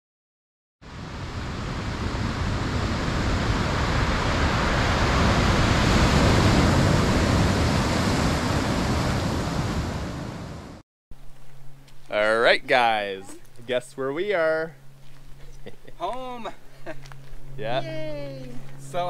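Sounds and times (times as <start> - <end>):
steady rushing noise: 0.8 - 10.8, 12.7 - 19.0.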